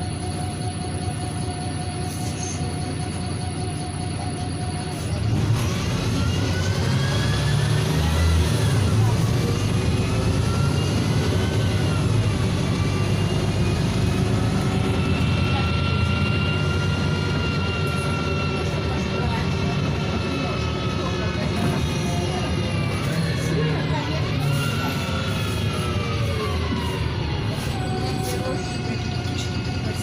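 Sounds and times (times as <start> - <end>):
bus diesel engine running: 0.0 - 30.0
gearbox whine: 0.0 - 30.0.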